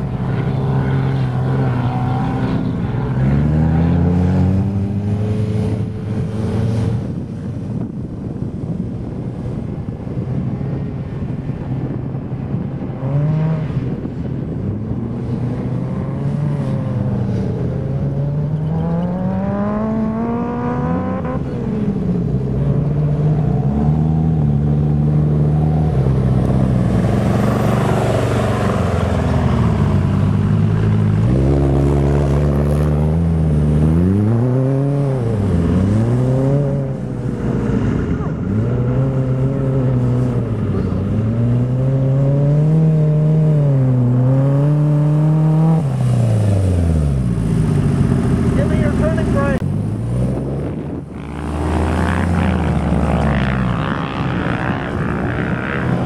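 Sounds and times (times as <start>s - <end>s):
dune buggy engine revving: 0.0s - 56.0s.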